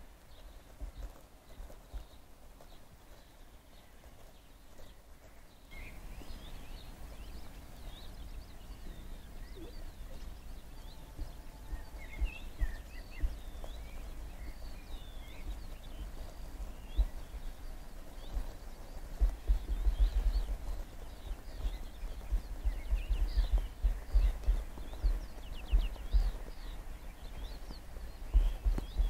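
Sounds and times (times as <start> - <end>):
small birds chirping: 0.0 - 29.0
wind gusts on microphone: 5.7 - 29.0.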